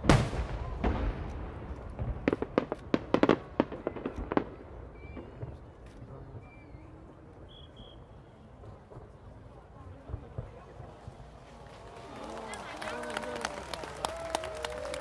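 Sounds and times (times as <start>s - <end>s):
fireworks bangs: 0.0s - 7.8s, 8.5s - 15.0s
fireworks crackle: 0.0s - 15.0s.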